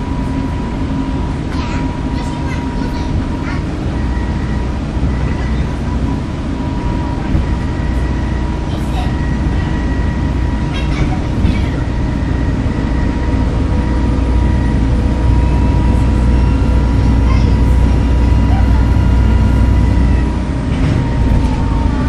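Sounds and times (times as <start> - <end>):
bus diesel engine drone: 0.0 - 22.0.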